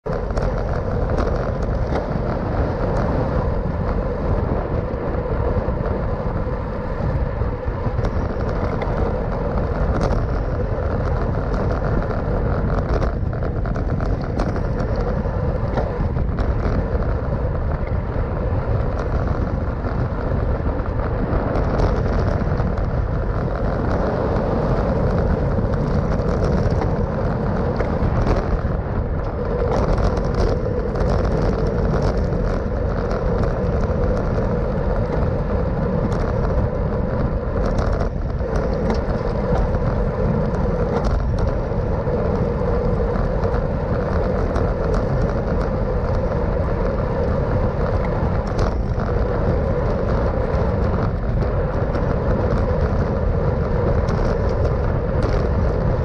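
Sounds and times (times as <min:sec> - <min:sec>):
road noise: 0:00.0 - 0:56.0
wind noise on microphone: 0:00.0 - 0:56.0.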